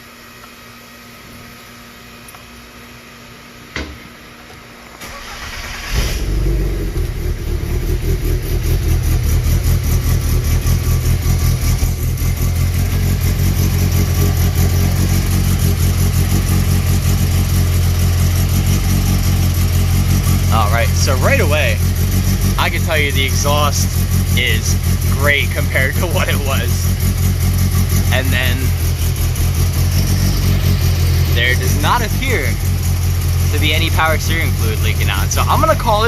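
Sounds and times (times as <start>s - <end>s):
engine cranking: 5.0s - 36.0s
choppy engine idle: 5.2s - 36.0s.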